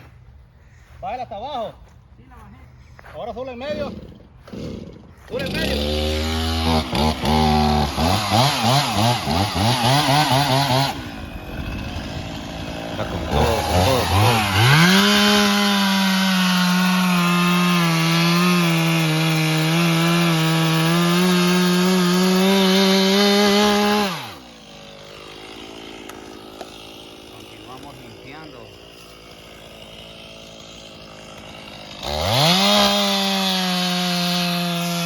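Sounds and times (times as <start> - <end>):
chainsaw cutting wood: 3.5 - 35.0.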